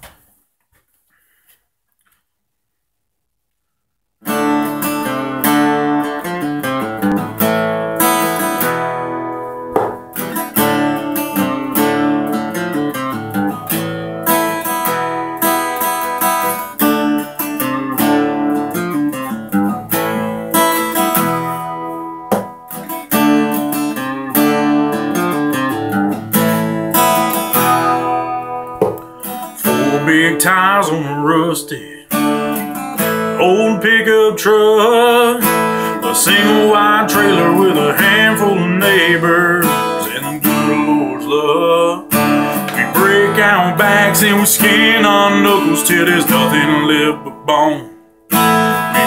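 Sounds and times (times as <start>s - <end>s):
acoustic guitar strumming chords: 4.2s - 49.0s.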